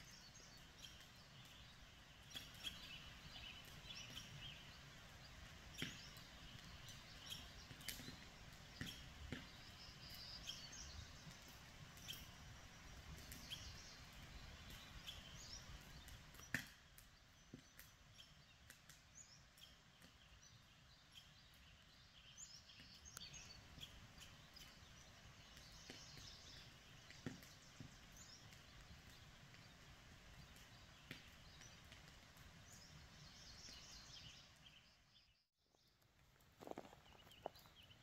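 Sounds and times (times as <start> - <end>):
birds chirping: 0.0 - 36.0, 36.6 - 38.0.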